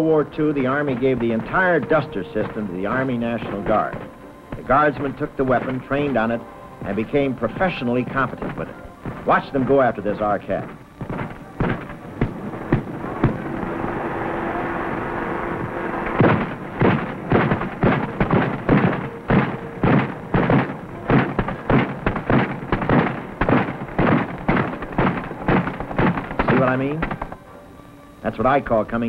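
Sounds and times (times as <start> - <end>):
anti-aircraft gun firing: 0.0 - 13.8, 14.9 - 27.4
steady hum: 0.0 - 29.0.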